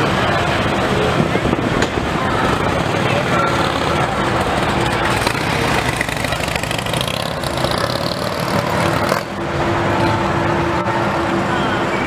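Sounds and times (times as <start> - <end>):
motorcycle engine: 0.0 - 11.8
vehicle engines in traffic: 0.0 - 12.0.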